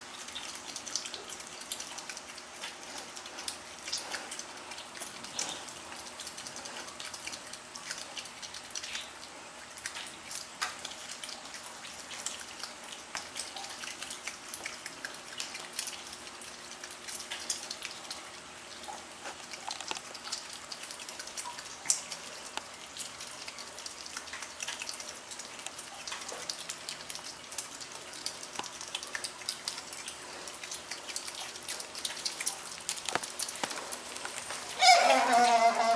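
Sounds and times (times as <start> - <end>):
otter chewing clicks: 0.0 - 35.8.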